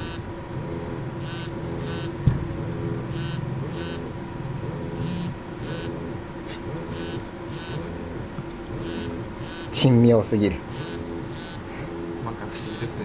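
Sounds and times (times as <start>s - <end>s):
phones buzzing on a tabletop: 0.0s - 13.0s.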